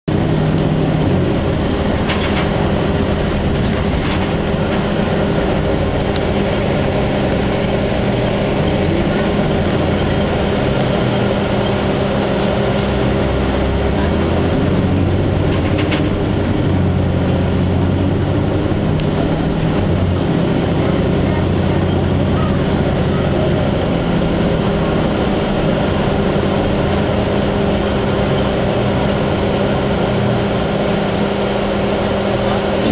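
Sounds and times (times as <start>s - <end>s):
bus engine drone: 0.0s - 32.9s
road noise: 0.0s - 32.9s.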